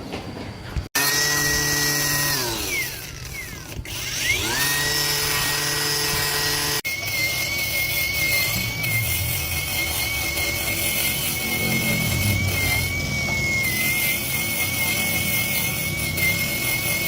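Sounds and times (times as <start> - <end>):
power tool motor running: 1.0 - 17.0.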